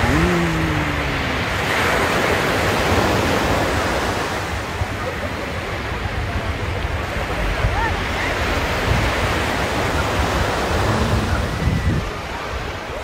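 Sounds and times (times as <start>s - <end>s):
waves breaking on sandy beach: 0.0s - 13.0s.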